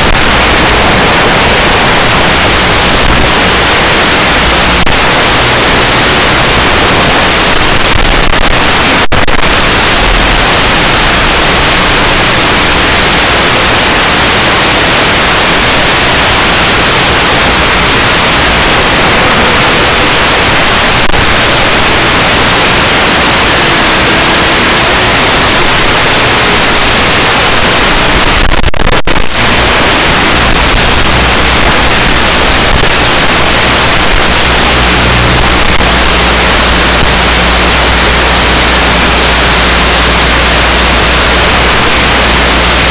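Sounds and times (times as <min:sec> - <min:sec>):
static hiss: 0:00.0 - 0:42.9.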